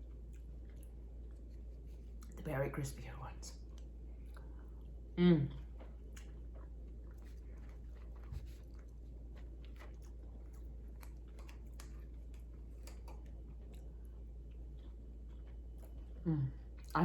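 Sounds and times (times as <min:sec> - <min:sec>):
chewing crispy food: 0:00.0 - 0:17.0
low steady hum: 0:00.0 - 0:17.0.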